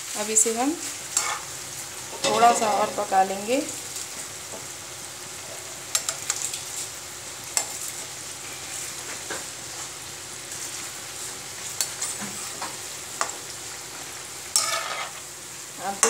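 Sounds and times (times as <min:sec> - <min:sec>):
deep-frying oil sizzle: 0:00.0 - 0:16.0.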